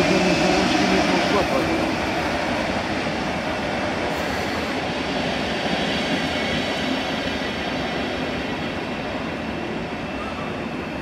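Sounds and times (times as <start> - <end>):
train rolling past: 0.0 - 11.0.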